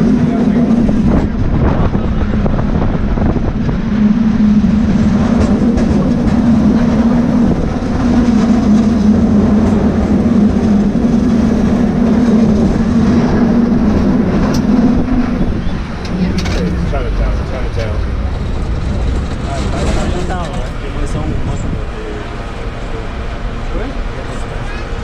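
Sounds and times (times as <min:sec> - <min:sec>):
cable car humming and rattling: 0:00.0 - 0:25.0.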